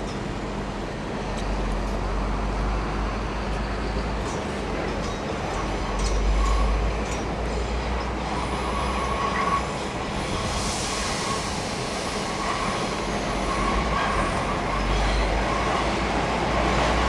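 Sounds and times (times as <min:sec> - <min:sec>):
train rumbling hum: 0:00.0 - 0:17.0.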